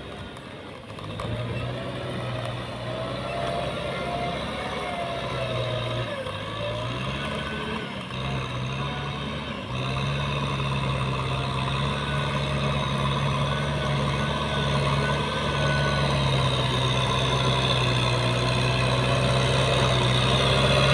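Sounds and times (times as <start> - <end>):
heavy diesel engine running: 0.0 - 20.9.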